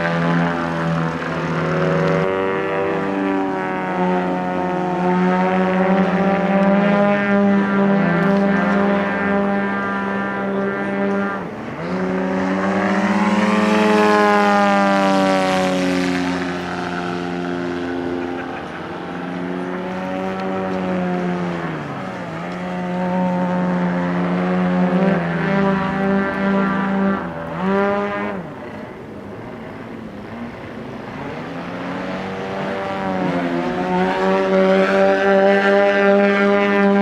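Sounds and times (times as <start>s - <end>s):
model plane engine buzzing: 0.0s - 37.0s.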